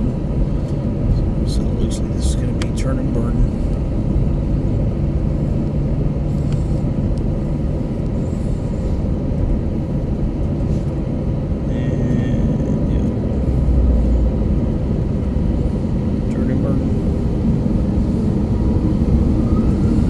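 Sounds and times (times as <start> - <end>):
aircraft cabin engine rumble: 0.0 - 20.0.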